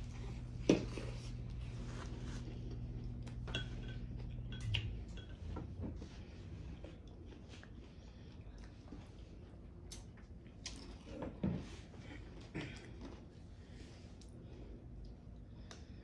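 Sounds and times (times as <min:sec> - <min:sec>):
soft chewing: 0:00.0 - 0:16.0
steady low hum: 0:00.0 - 0:16.0.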